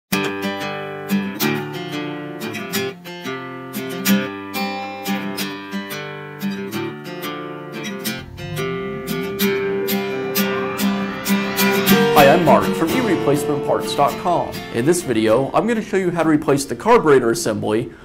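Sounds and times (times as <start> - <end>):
plucked and strummed guitar: 0.1 - 16.0.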